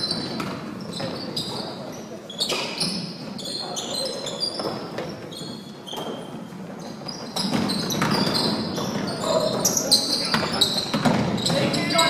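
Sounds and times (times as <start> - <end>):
sneaker squeaks: 0.0 - 12.0.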